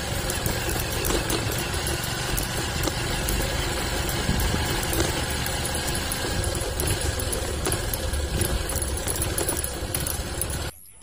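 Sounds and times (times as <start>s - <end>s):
vehicle engine on dirt road: 0.0s - 11.0s.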